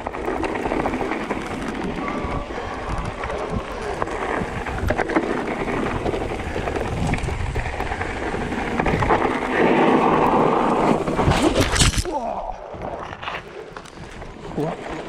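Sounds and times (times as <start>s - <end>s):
bike rattling: 0.0s - 15.0s
bike tyres crunching on gravel: 0.0s - 15.0s
wind on microphone: 0.0s - 15.0s.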